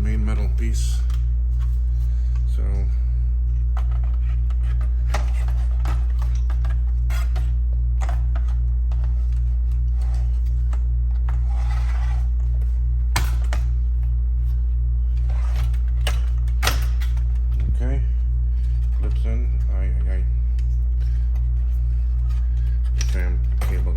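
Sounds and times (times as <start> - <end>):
low electrical hum: 0.0 - 23.9.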